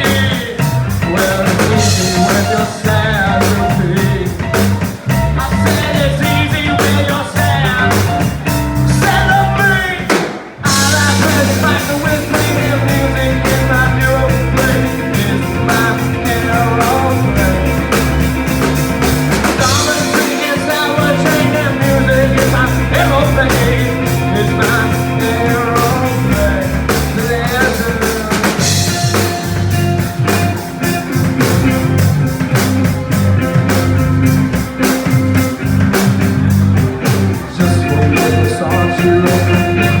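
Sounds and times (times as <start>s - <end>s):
person singing: 0.0s - 33.8s, 37.0s - 40.0s
live rock band playing: 0.0s - 40.0s.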